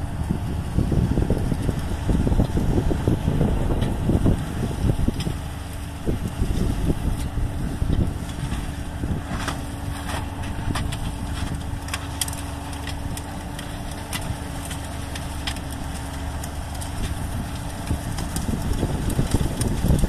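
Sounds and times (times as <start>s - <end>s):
combine harvester engine drone: 0.0s - 20.0s
constant hum: 0.0s - 20.0s.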